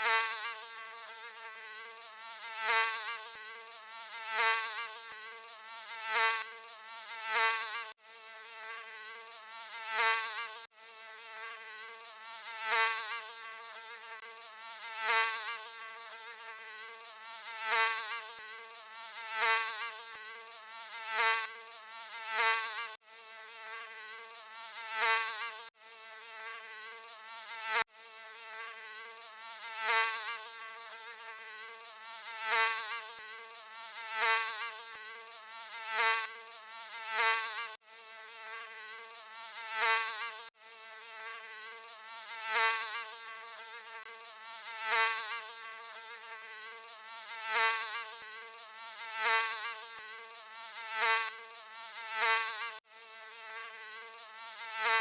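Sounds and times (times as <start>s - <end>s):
mosquito buzzing: 0.0s - 55.0s.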